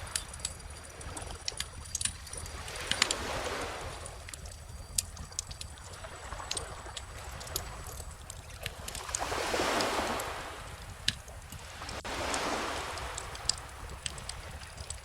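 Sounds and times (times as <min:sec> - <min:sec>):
bonfire crackling and popping: 0:00.0 - 0:15.0
ocean waves washing in: 0:01.9 - 0:15.0.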